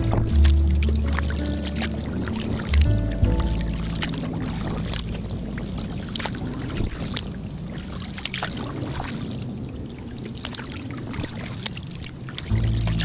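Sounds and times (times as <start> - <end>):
low rumble: 0.0 - 13.0
paddle splashing in water: 0.0 - 13.0.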